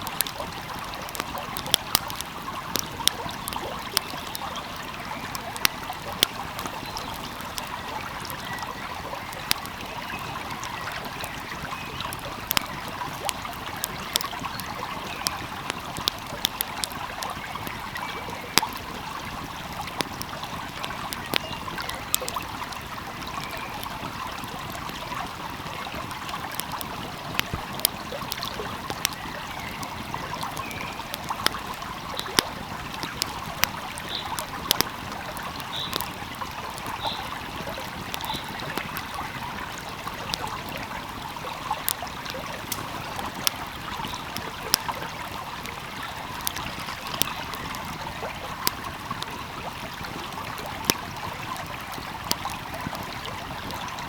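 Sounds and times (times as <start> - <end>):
flowing stream: 0.0 - 54.0
wood fire crackling: 0.0 - 54.0.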